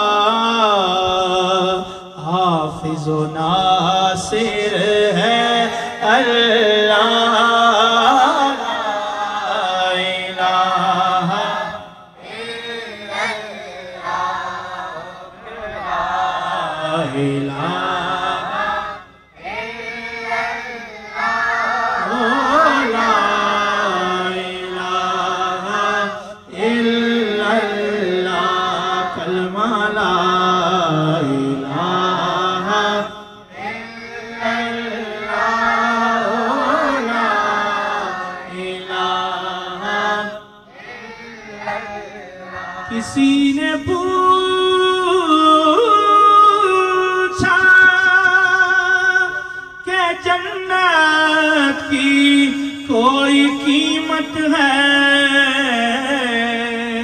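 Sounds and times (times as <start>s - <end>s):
boys and man singing devotional song: 0.0s - 57.0s.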